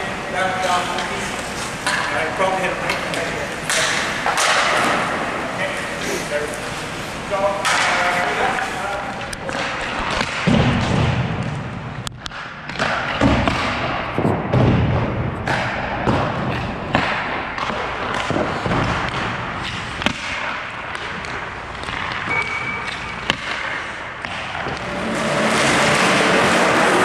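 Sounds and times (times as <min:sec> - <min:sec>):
pucks striking sticks and pads: 0:00.6 - 0:06.8, 0:07.4 - 0:27.0.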